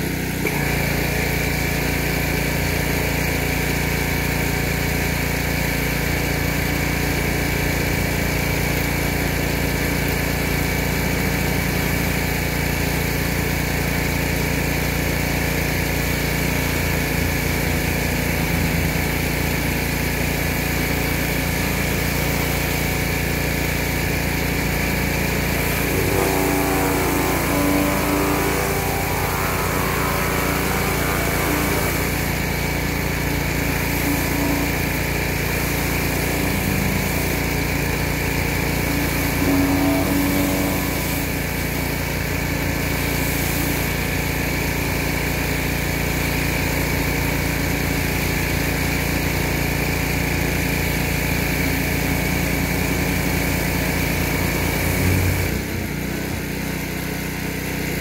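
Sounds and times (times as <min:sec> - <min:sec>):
pressure washer running: 0:00.0 - 0:58.0.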